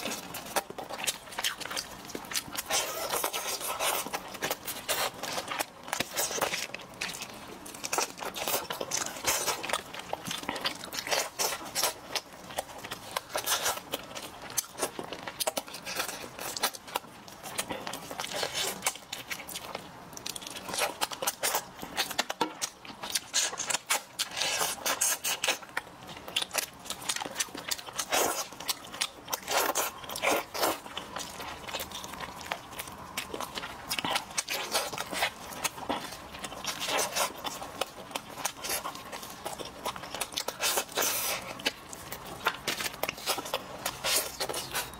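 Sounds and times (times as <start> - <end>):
aluminium foil crinkling: 0.0 - 44.9
man chewing and lip smacking: 0.0 - 44.9.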